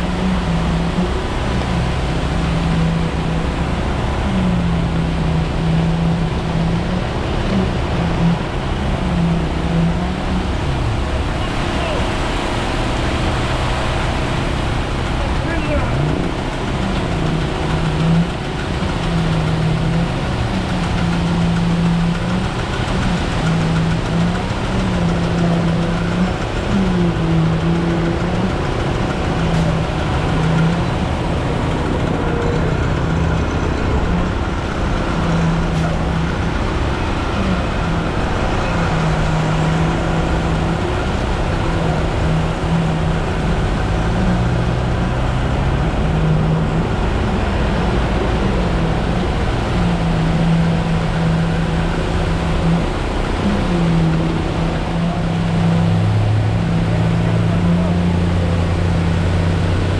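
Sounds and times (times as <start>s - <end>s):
diesel truck engine running: 0.0s - 59.9s
mechanical rumble: 0.0s - 59.9s.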